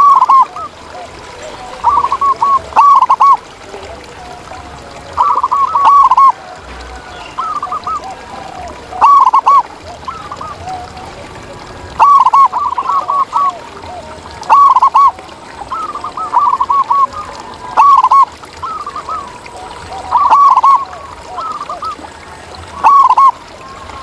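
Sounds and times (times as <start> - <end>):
doves cooing: 0.0 - 24.0
faint doves calling: 0.0 - 24.0.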